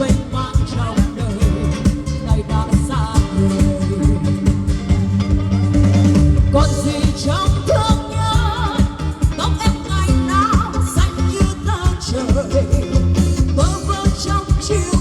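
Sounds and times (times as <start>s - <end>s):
woman singing pop song: 0.0s - 5.5s, 6.4s - 15.0s
backing music with drum beat: 0.0s - 15.0s.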